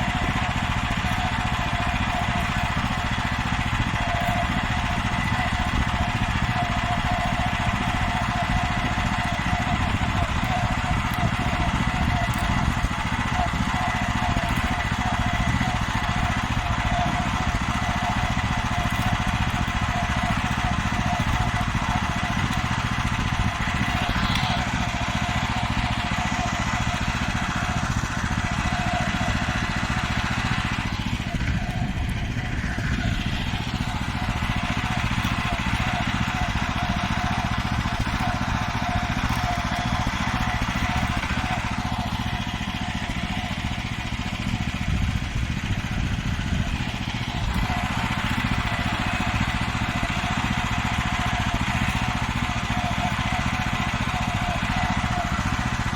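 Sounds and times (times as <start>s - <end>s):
steady whine: 0.0s - 50.7s
tractor engine running: 0.0s - 55.9s.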